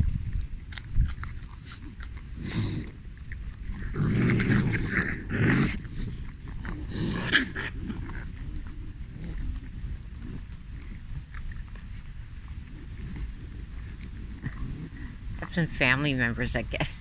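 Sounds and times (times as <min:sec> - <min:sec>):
raccoons growling: 0:00.0 - 0:16.0.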